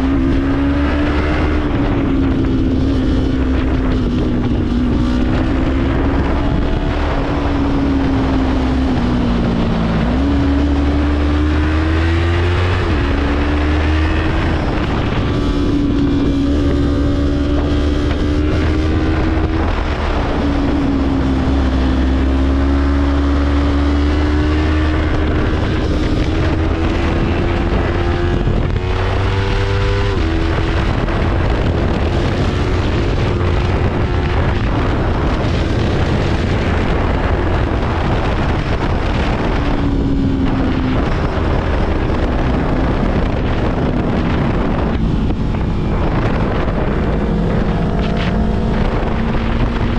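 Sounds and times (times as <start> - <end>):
motorcycle engines revving: 0.0 - 49.9
wind on microphone: 0.0 - 49.9.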